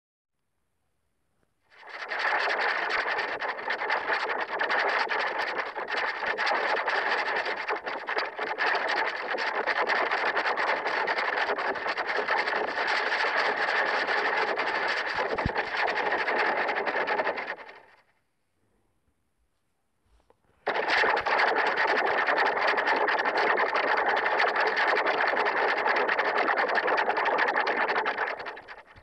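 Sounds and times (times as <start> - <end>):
harsh crackling noise: 1.7 - 18.1, 20.1 - 29.0.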